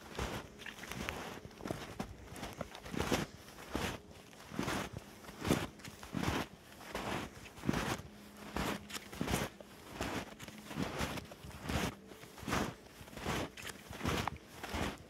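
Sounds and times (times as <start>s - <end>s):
snowshoes crunching in snow: 0.0s - 15.0s.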